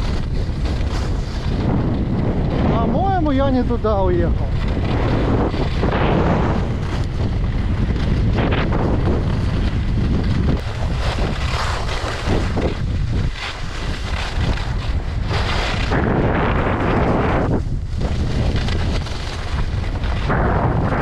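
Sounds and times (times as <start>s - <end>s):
ski edges scraping snow: 0.0s - 2.7s, 4.0s - 21.0s
wind buffeting microphone: 0.0s - 21.0s.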